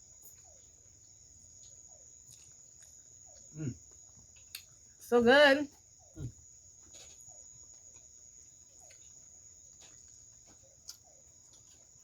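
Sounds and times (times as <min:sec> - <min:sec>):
person chewing food: 0:00.0 - 0:04.9, 0:06.8 - 0:12.0
crickets chirping: 0:00.0 - 0:12.0.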